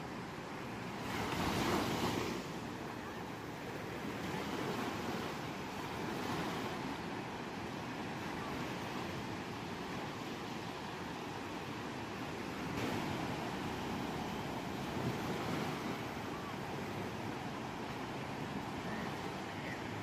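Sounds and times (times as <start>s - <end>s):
waves breaking on shore: 0.0s - 20.0s.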